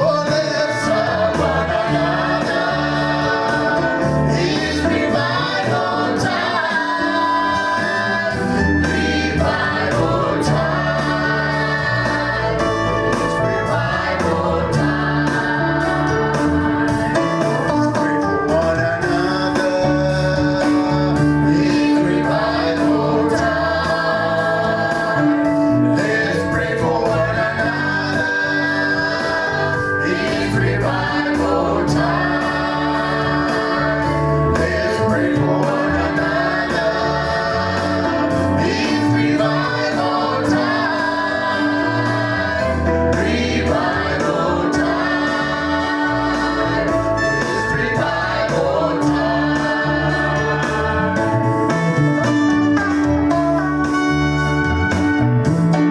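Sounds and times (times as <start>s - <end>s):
gospel choir singing over beat: 0.0s - 55.9s.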